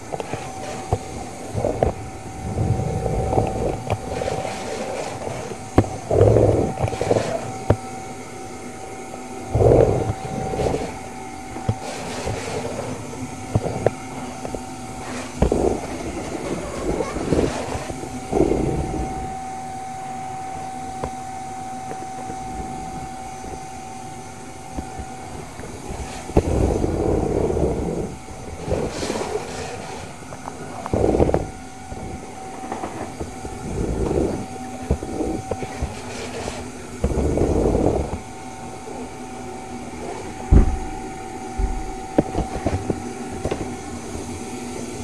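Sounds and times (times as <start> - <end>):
rushes of suction noise: 0.0 - 21.2, 21.9 - 44.4
vacuum cleaner whining: 0.0 - 45.0.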